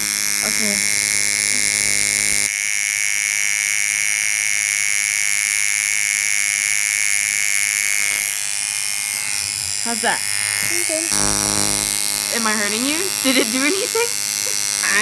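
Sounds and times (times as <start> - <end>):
tattoo machine buzzing: 0.0 - 15.0.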